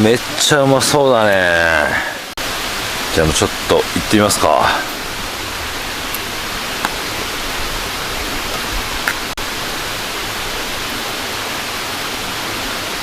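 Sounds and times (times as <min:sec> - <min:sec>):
steady rushing noise: 0:01.4 - 0:13.0.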